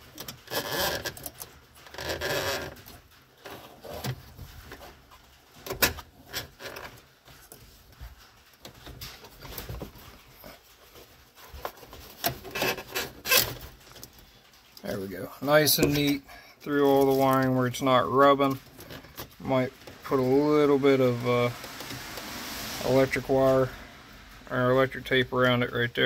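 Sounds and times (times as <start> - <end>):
cable rustling and scraping: 0.0 - 26.0.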